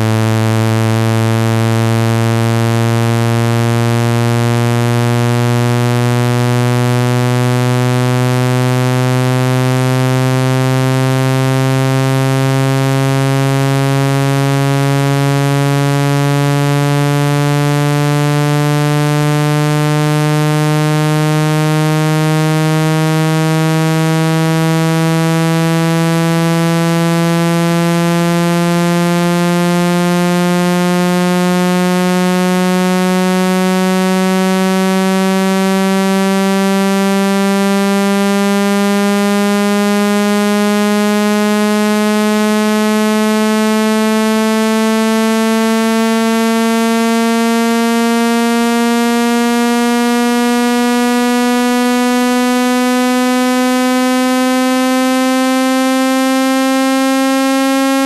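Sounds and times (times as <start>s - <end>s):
buzzy tone rising in pitch: 0.0s - 58.0s.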